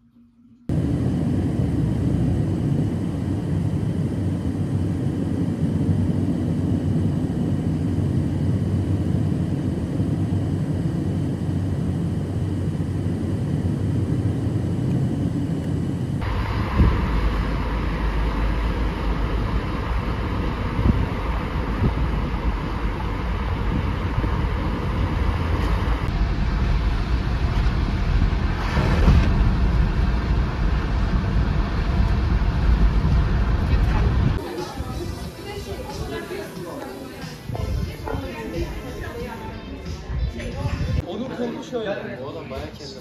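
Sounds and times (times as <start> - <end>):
car road and engine noise: 0.7 - 36.2
wind rushing over microphone: 0.7 - 36.4, 37.3 - 41.0.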